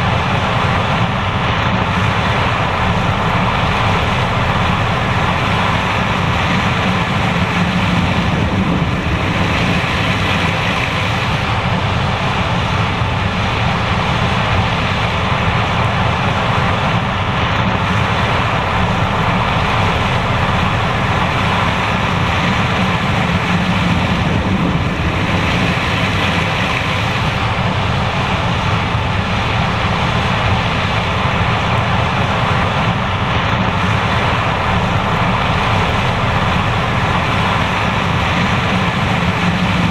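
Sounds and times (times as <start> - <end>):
broad rushing noise: 0.0 - 39.9
combine harvester drone: 0.0 - 39.9.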